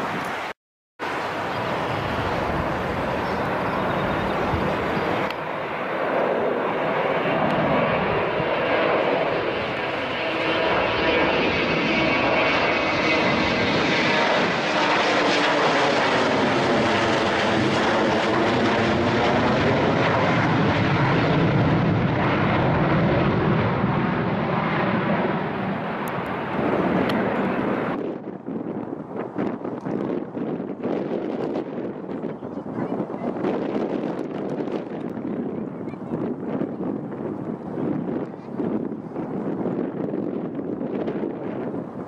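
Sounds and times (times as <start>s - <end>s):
airplane engines roaring: 0.0s - 42.0s.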